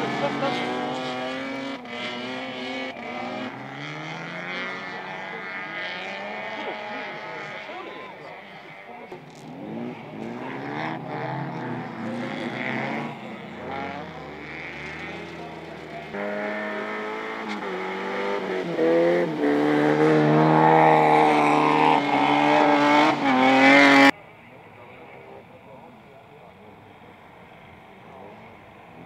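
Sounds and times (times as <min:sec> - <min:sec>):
car engines revving hard: 0:00.0 - 0:24.2, 0:25.3 - 0:29.0.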